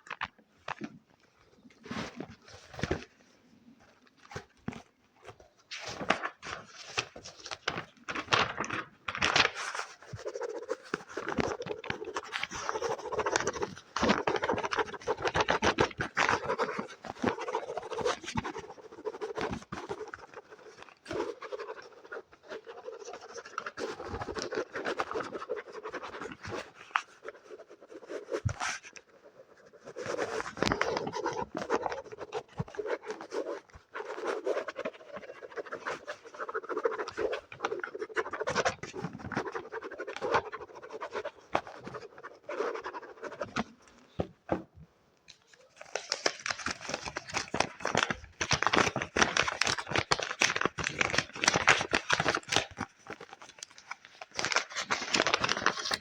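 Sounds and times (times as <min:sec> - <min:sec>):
scratching on a book: 0:04.0 - 0:44.7, 0:45.4 - 0:56.0.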